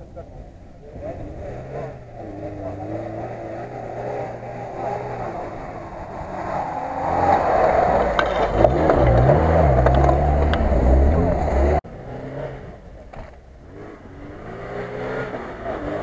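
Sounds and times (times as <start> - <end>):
car driving over dirt track: 0.0 - 16.0
car engine revving: 0.0 - 16.0.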